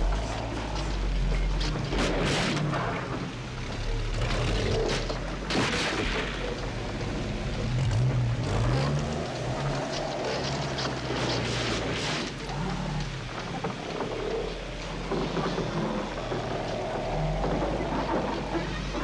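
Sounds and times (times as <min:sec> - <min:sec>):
heavy rain: 0:00.0 - 0:19.0
truck engine labouring: 0:00.0 - 0:19.0.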